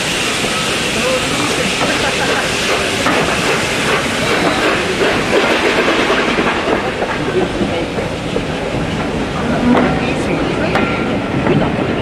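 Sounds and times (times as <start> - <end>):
train wheels clattering over rail joints: 0.4 - 12.0.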